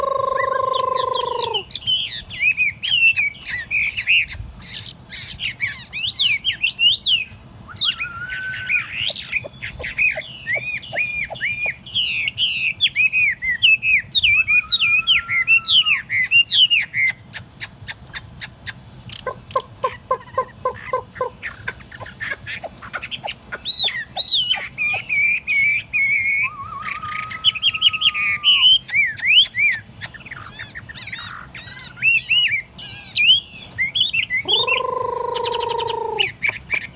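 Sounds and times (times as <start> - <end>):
bird singing whistled song: 0.3 - 18.5, 21.8 - 36.9.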